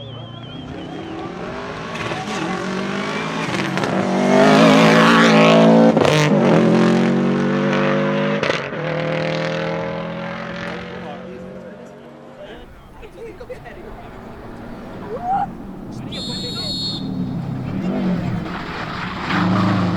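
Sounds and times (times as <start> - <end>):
rally car engine accelerating: 0.0 - 11.5, 12.4 - 19.9.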